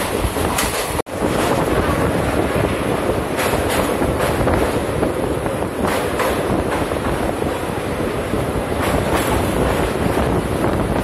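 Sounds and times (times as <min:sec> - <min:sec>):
train rumbling over bridge: 0:00.0 - 0:11.0
wheels clattering over rail joints: 0:00.0 - 0:11.0.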